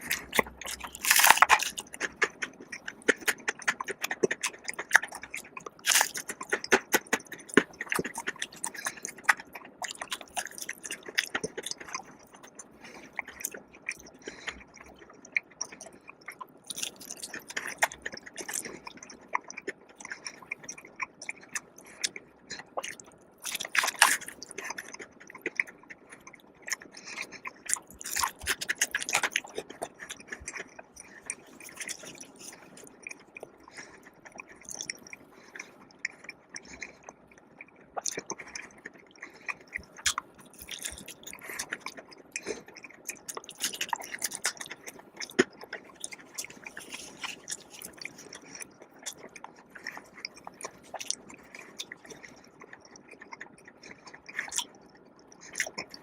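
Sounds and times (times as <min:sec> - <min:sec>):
chewing food: 0:00.0 - 0:56.0
food crunching: 0:00.0 - 0:56.0.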